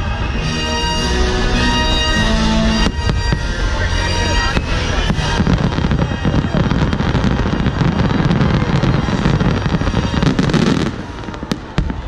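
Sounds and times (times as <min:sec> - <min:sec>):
fireworks bursting and crackling: 0:00.0 - 0:12.0
sharp firework reports: 0:00.0 - 0:12.0.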